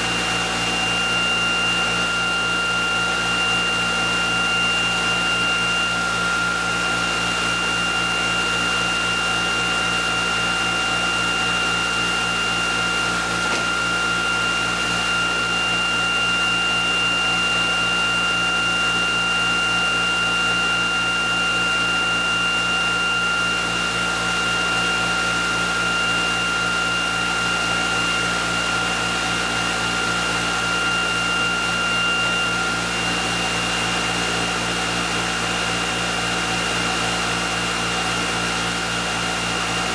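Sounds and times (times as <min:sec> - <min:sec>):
high motor whine: 0:00.0 - 0:39.9.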